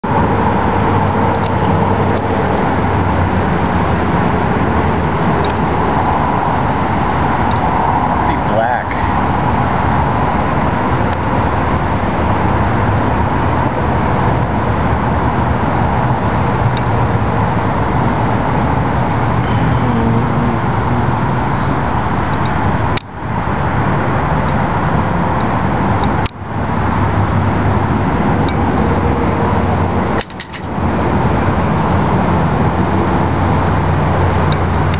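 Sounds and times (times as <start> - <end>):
freeway traffic rushing: 0.0 - 34.9.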